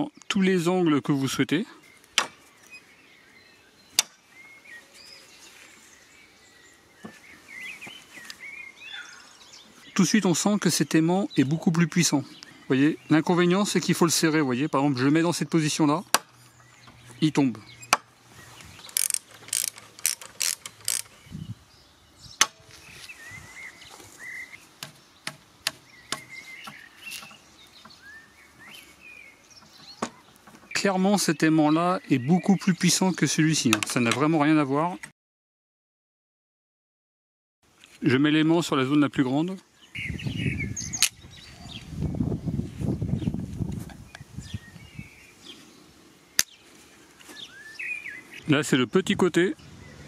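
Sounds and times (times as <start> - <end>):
birds chirping: 0.0 - 35.1, 37.7 - 50.0.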